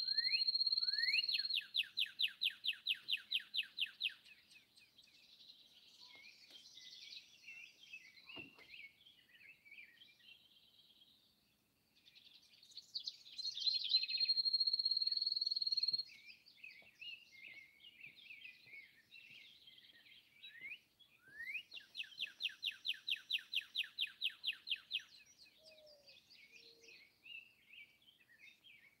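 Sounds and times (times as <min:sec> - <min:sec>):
birds singing in chorus: 0:00.0 - 0:29.0.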